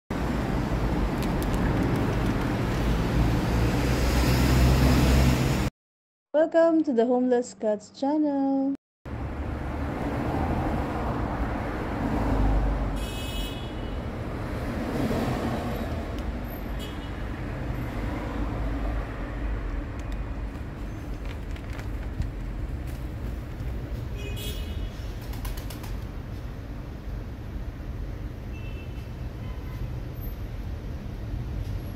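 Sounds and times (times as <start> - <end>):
road traffic rumble: 0.1 - 5.7, 9.1 - 31.9.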